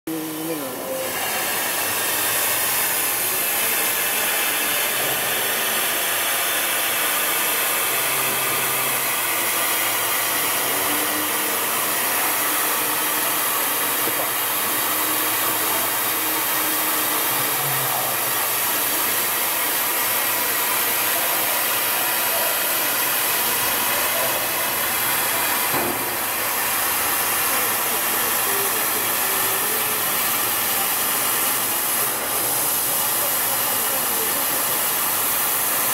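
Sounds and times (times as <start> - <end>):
hiss of blown air: 0.3 - 35.9.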